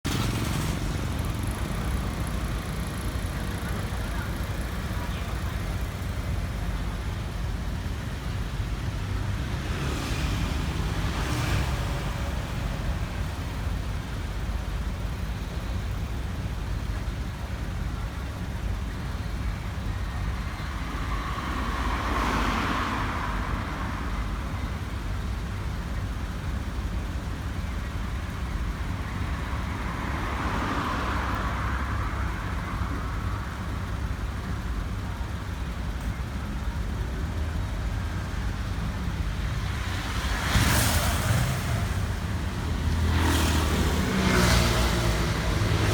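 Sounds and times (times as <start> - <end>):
low traffic rumble: 0.0 - 45.9
vehicles passing by: 0.0 - 45.9.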